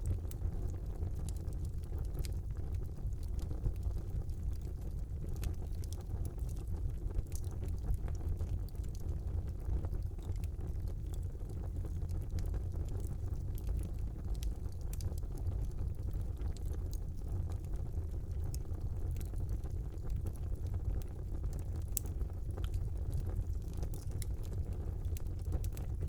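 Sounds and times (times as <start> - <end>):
wood fire burning: 0.0 - 26.0.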